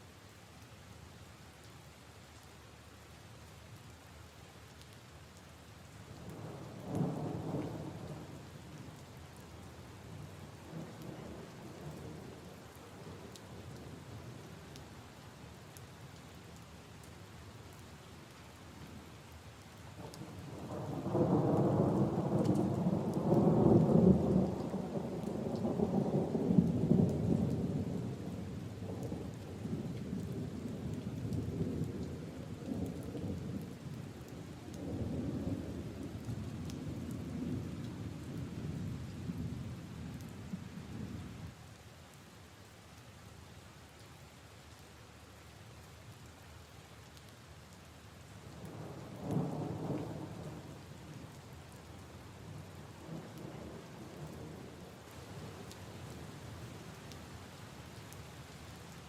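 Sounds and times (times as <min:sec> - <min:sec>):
rain on puddles and leaves: 0:00.0 - 0:59.0.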